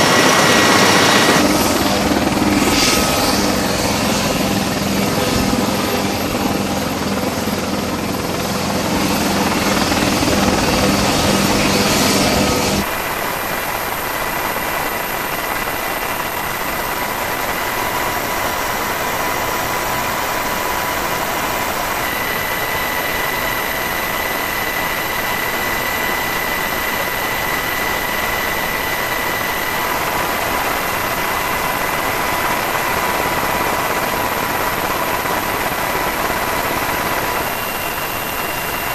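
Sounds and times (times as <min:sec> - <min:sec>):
aircraft engine drone with whine: 0:00.0 - 0:38.9
helicopter running: 0:00.0 - 0:38.9.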